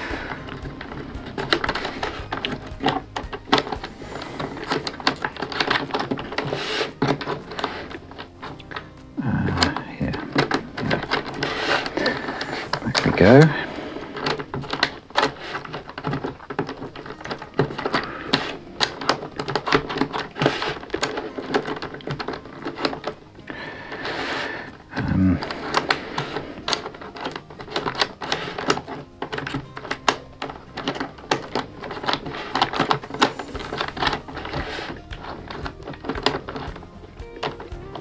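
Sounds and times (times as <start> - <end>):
wood and metal puzzle clicks: 0.0 - 38.0.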